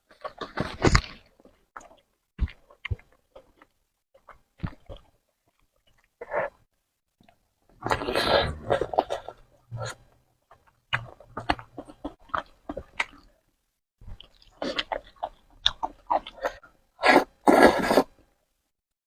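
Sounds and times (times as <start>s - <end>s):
wet chewing: 0.1s - 6.6s, 7.2s - 13.4s, 14.0s - 18.0s.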